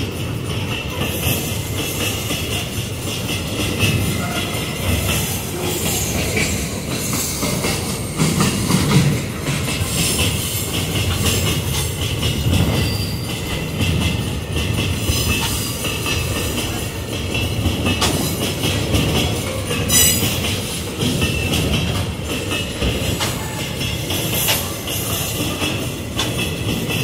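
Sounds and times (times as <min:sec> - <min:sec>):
train wheels clattering over rails: 0:00.0 - 0:27.0.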